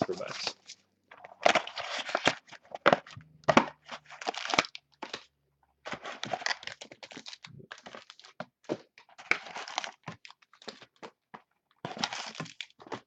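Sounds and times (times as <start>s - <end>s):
plastic packaging crinkling and tearing: 0.0s - 11.1s, 11.8s - 13.0s.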